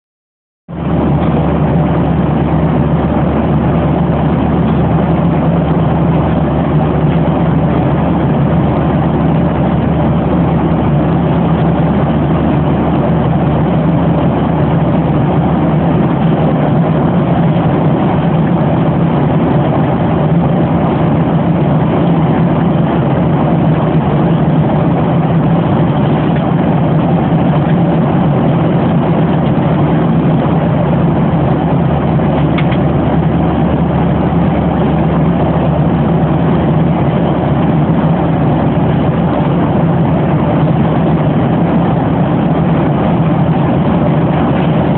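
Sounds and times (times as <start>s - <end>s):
airliner cabin jet engine rush: 0.7s - 44.9s
constant low hum: 0.7s - 44.9s.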